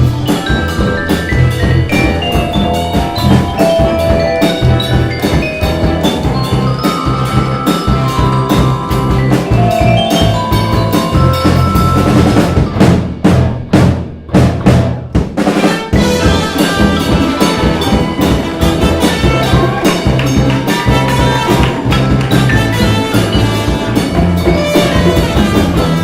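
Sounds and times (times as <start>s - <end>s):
vibraphone and steel pan notes: 0.0s - 12.7s, 16.0s - 26.0s
live band playing: 0.0s - 26.0s.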